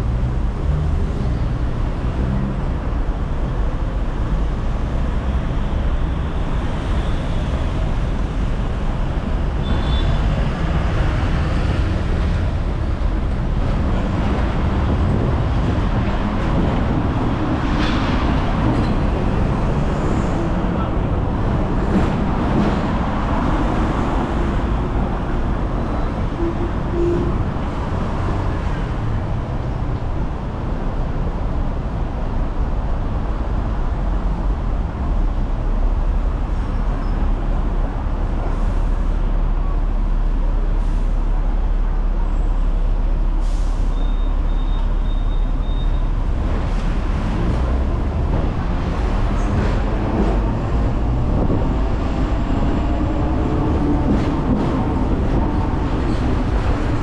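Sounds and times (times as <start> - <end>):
electric tram rumbling and rattling: 0.0 - 57.0.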